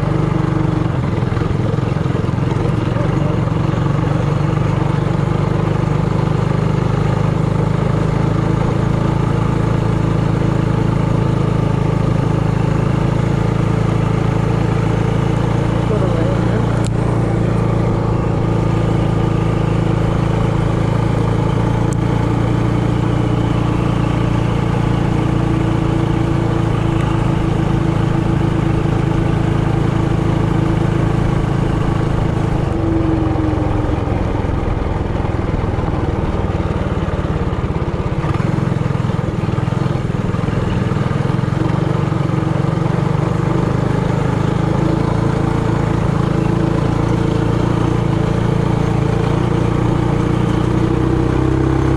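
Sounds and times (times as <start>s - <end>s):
mini bike engine running: 0.0s - 51.9s.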